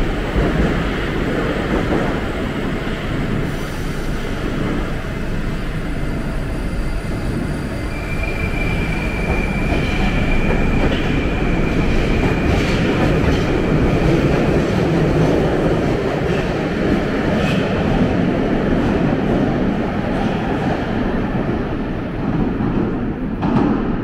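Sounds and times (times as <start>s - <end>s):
metro train rumble: 0.0s - 24.0s.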